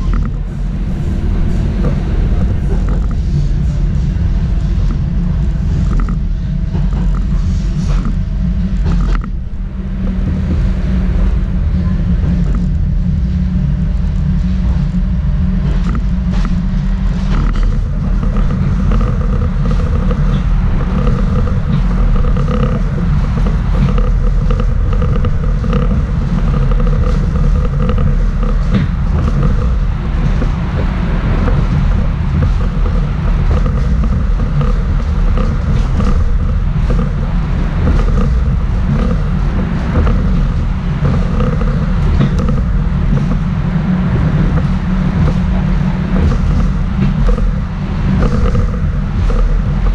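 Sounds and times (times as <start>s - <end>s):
faint steady whine: 0.0s - 49.9s
tram wheels rumbling on rails: 0.0s - 49.9s.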